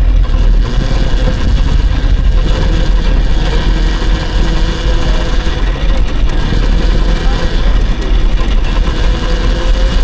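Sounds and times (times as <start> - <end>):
faint steady whine: 0.0 - 10.0
wind buffeting the microphone: 0.0 - 10.0.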